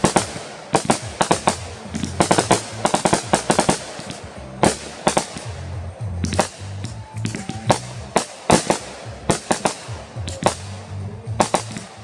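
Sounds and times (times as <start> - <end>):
fireworks bursting with sharp bangs: 0.0 - 12.0
music playing: 0.0 - 12.0.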